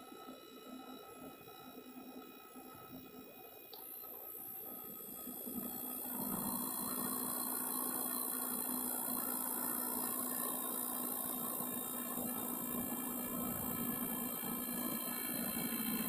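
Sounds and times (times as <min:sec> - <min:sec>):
small electric motor whirring: 0:00.0 - 0:16.0.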